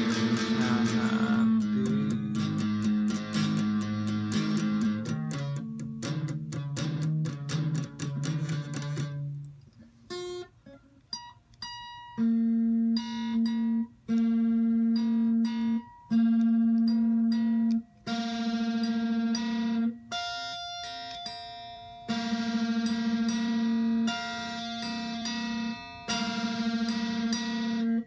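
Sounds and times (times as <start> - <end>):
electric guitar notes ringing: 0.0 - 28.0.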